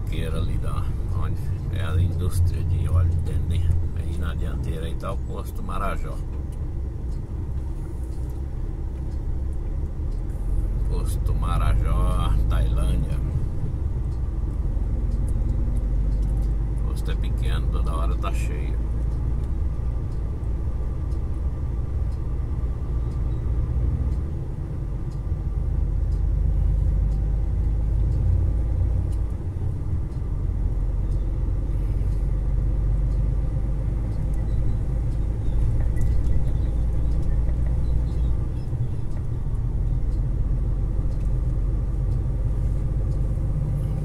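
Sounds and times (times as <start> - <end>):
truck engine and road rumble: 0.0 - 44.0.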